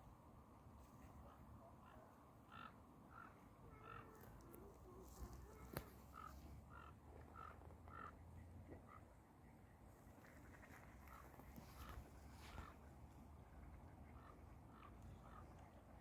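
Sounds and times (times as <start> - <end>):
faint bird calls: 0.8 - 16.0.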